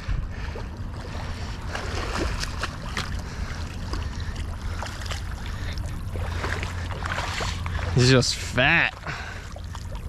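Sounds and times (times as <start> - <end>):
wind rumble on microphone: 0.0 - 8.2
rushing water: 0.4 - 10.0.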